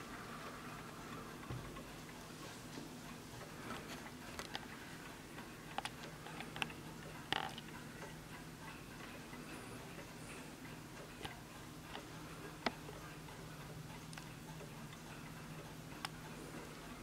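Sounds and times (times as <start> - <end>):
clock ticking: 0.0 - 17.0.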